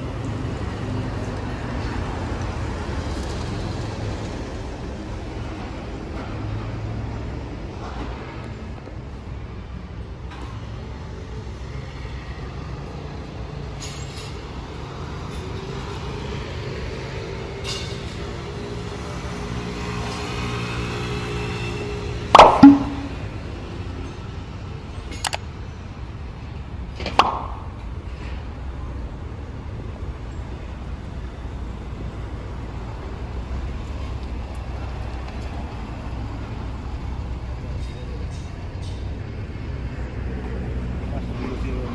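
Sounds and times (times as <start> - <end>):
cars passing on city street: 0.0 - 41.9
traffic rumble: 0.0 - 41.9.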